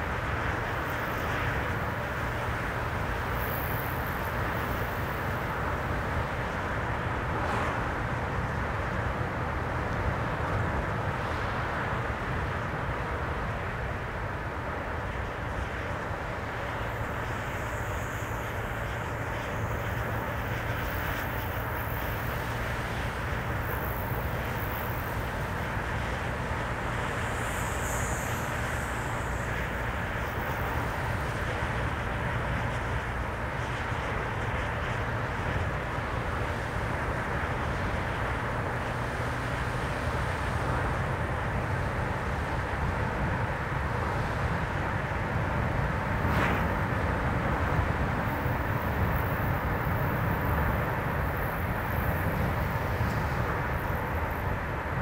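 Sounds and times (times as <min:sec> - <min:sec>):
road and tyre noise: 0:00.0 - 0:55.0.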